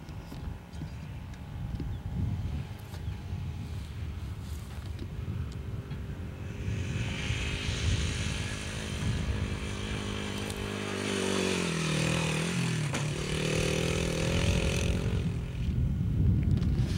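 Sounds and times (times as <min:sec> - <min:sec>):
dirt bike engine passing: 0:01.5 - 0:16.9.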